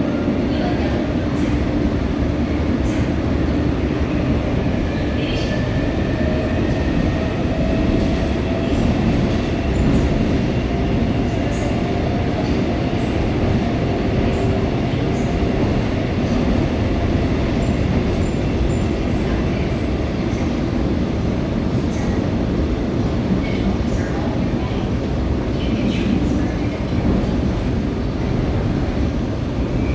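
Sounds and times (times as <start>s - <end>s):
train wheels rumbling: 0.0s - 29.9s.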